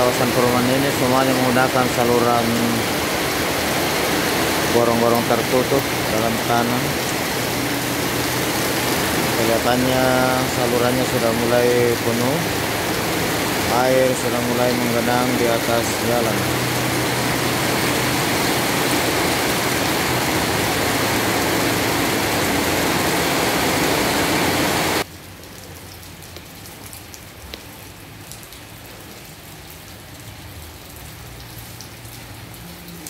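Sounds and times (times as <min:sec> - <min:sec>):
heavy rain pouring: 0:00.0 - 0:33.0
light rain with drips: 0:00.0 - 0:33.0.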